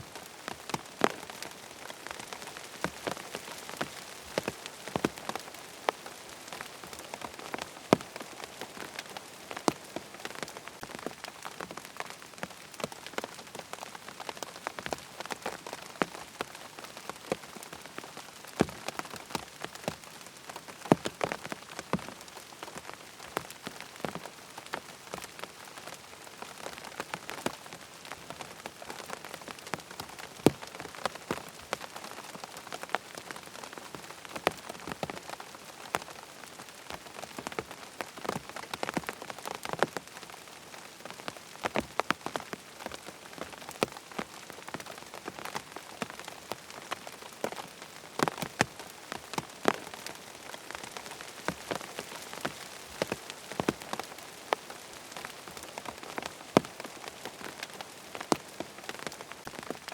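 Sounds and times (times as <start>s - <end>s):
rain pattering on tent fabric: 0.0s - 59.9s.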